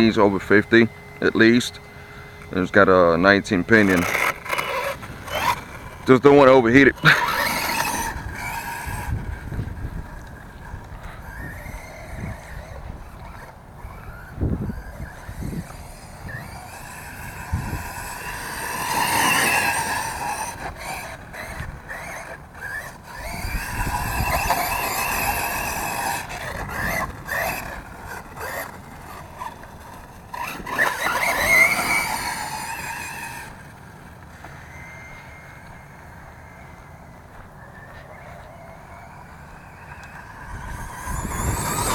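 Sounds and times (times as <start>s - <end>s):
electric motor whining: 0.0s - 41.9s.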